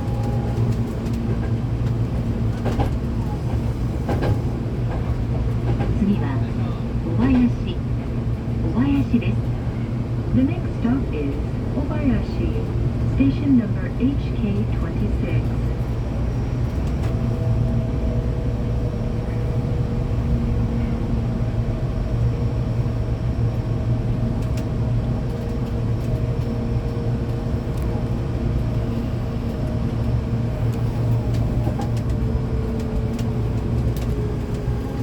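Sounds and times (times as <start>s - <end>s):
train running gear rumbling: 0.0s - 35.0s.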